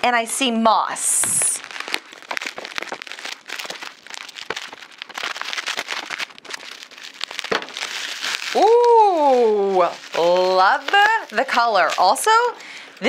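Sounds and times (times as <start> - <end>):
bubble wrap crinkling: 0.2 - 13.0.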